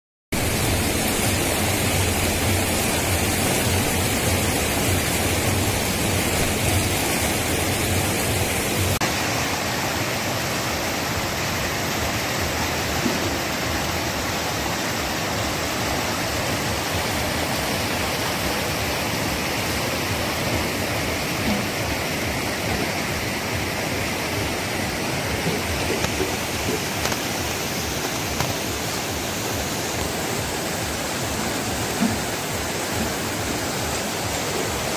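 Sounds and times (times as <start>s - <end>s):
river rushing over rapids: 0.4s - 34.9s.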